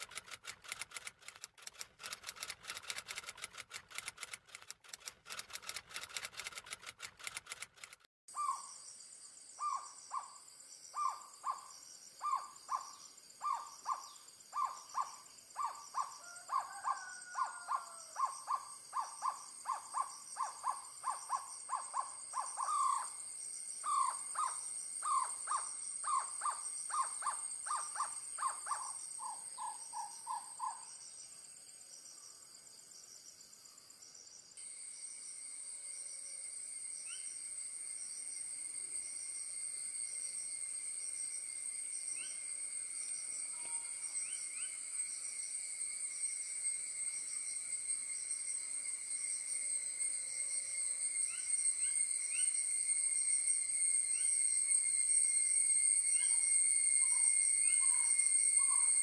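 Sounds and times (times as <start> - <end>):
high-pitched insect drone: 8.3 - 59.0.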